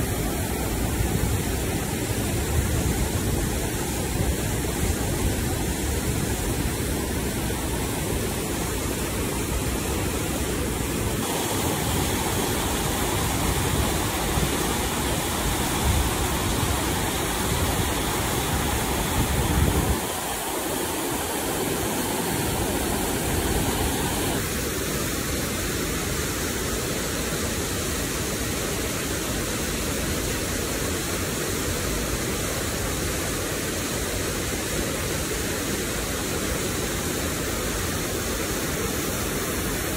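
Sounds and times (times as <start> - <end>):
water rushing through dam gate: 0.0 - 39.9.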